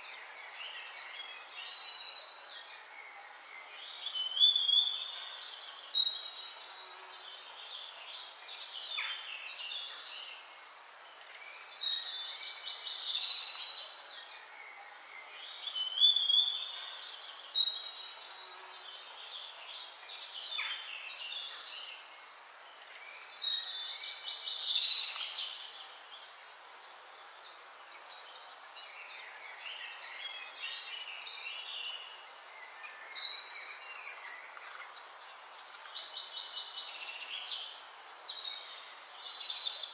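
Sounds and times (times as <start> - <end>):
soft background hiss: 0.0 - 39.9
songbirds singing: 0.0 - 39.9.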